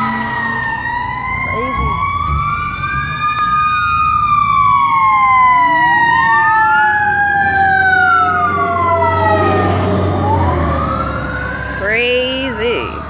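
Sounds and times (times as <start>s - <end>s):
emergency sirens wailing: 0.0s - 13.0s.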